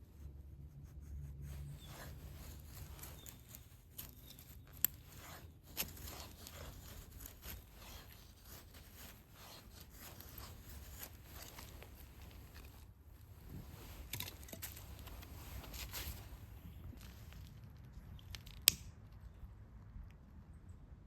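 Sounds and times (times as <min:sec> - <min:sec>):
rustling and scraping: 0:00.0 - 0:18.7.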